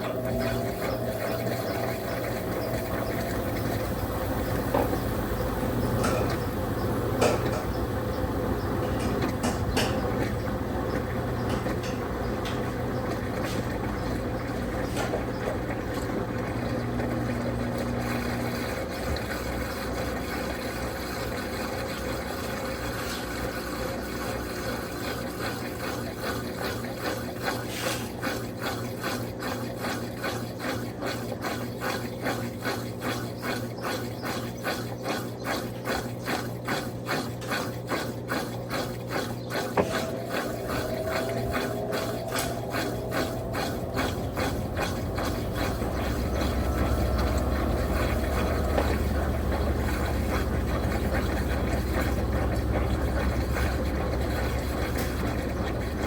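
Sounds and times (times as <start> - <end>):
washing machine motor hum: 0.0 - 56.0
washing machine swishing: 0.0 - 56.0.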